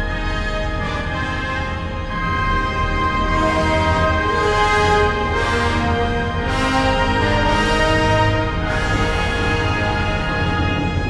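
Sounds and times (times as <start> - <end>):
orchestra playing held chords: 0.0 - 11.0.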